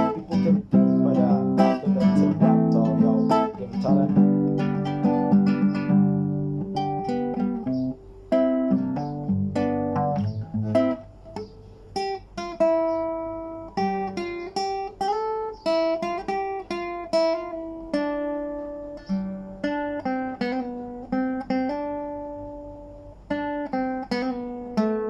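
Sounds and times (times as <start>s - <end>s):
plucked string instrument: 0.0s - 25.0s.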